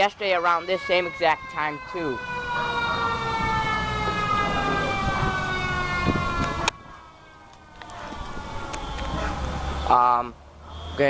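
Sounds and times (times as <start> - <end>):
emergency vehicle siren wailing: 0.0 - 11.0
low vehicle rumble: 0.0 - 11.0.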